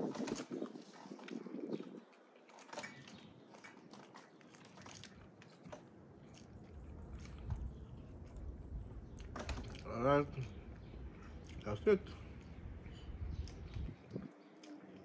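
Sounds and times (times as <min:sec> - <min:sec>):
fried chicken crunching: 0:00.0 - 0:12.6.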